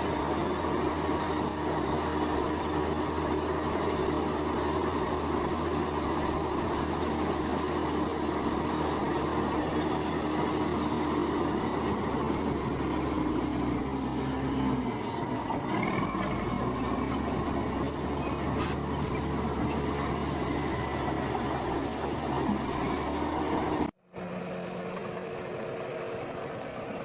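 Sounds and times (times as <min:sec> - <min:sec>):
tracks squealing and rattling: 0:00.0 - 0:23.9
bulldozer diesel engine running: 0:00.0 - 0:27.0.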